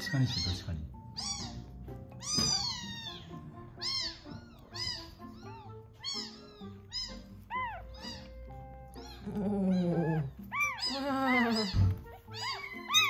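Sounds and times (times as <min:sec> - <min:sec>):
kitten crying: 0:00.0 - 0:13.0.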